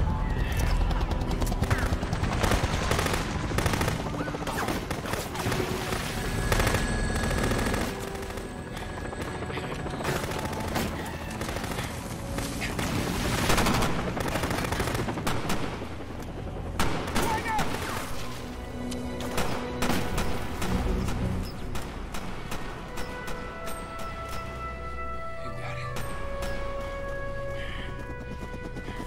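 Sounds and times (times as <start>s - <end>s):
low helicopter rumble: 0.0s - 29.0s.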